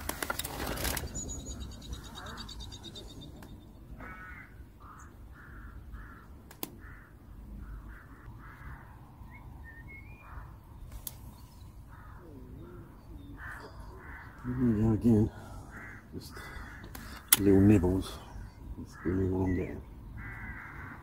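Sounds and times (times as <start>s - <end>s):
crows cawing: 0.0s - 3.2s, 3.8s - 10.9s, 11.7s - 21.0s.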